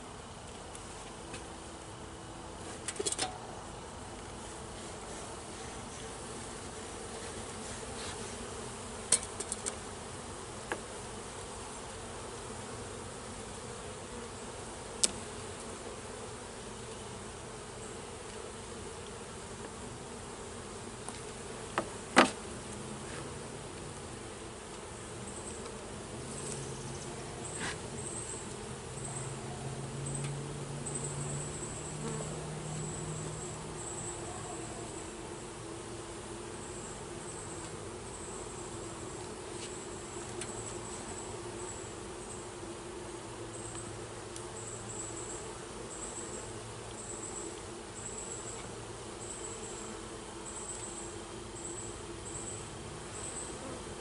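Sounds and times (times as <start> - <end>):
honeybees humming: 0.0 - 54.0.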